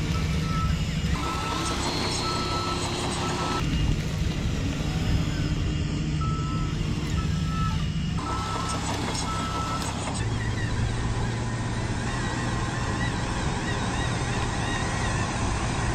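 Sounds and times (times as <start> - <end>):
reversing alarm beeps: 0.0 - 3.6, 4.9 - 15.2
model drive whirring: 0.0 - 15.9
simulated diesel engine sound: 0.0 - 15.9.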